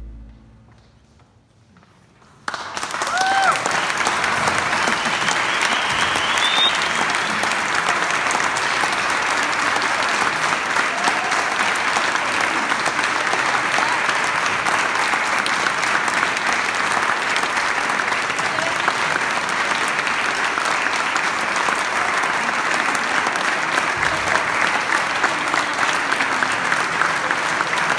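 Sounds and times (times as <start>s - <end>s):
audience applauding: 2.4s - 27.9s.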